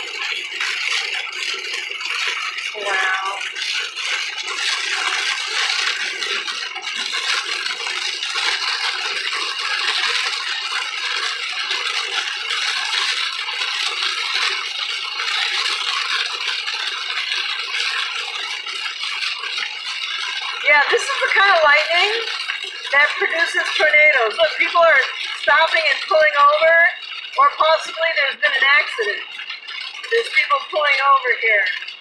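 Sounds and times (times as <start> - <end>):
heavy rain on car roof: 0.0 - 32.0.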